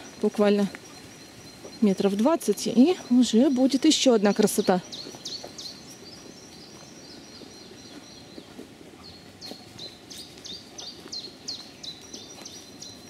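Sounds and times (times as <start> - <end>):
footsteps rustling on forest floor: 0.0 - 13.0
songbird singing: 0.0 - 13.0.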